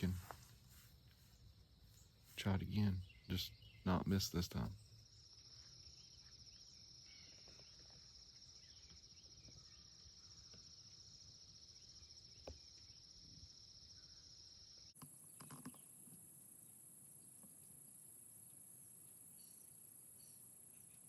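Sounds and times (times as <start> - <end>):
crickets trilling: 0.0 - 21.0
faint insect chirps: 0.0 - 21.0
higher-pitched insect trill: 0.0 - 21.0.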